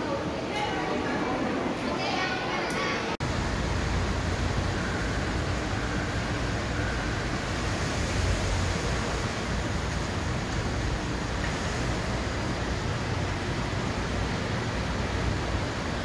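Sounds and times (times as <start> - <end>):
rushing background noise: 0.0 - 16.0.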